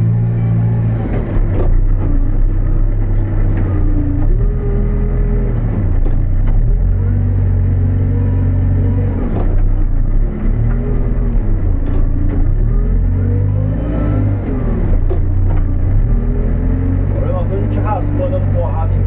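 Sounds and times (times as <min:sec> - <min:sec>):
diesel engine working under load: 0:00.0 - 0:19.0.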